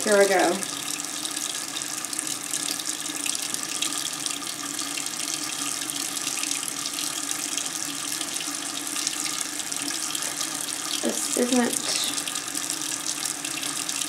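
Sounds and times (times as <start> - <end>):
faucet running into sink: 0.0 - 14.0.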